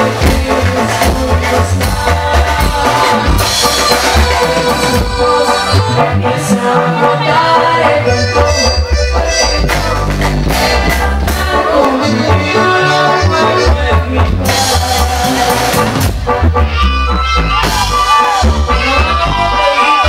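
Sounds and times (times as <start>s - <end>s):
accordion: 0.0s - 20.0s
live band playing: 0.0s - 20.0s.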